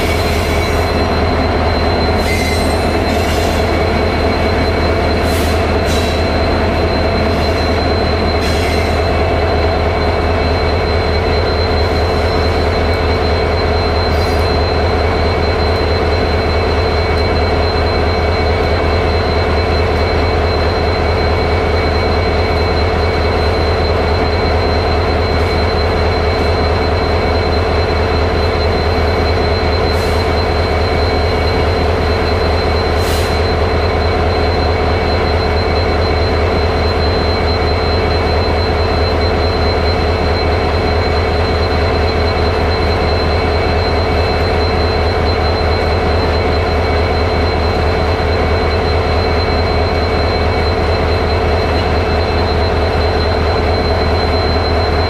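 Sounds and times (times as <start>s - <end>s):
locomotive engine idling: 0.0s - 55.0s.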